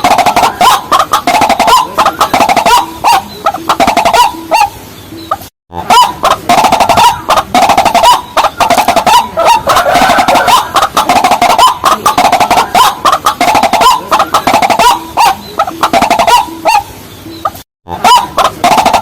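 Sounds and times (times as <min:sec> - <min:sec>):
rails calling rapid clucking: 0:00.0 - 0:19.0.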